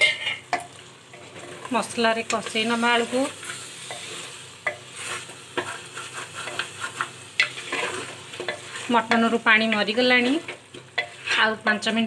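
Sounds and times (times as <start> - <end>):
spatula scraping in a pot: 0.0 - 0.4, 2.4 - 11.9
soft frying sizzle: 0.0 - 12.0.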